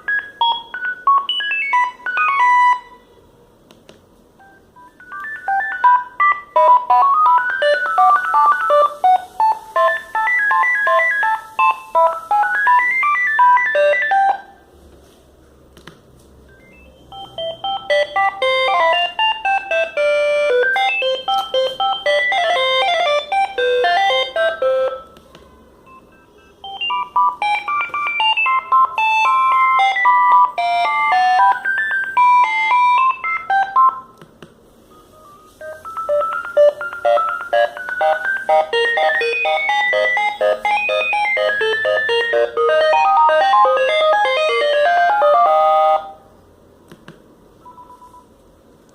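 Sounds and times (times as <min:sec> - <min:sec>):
mobile phone ringtone melodies: 0:00.0 - 0:03.0, 0:04.4 - 0:14.6, 0:16.5 - 0:25.1, 0:25.9 - 0:34.2, 0:34.8 - 0:46.3, 0:47.6 - 0:48.3.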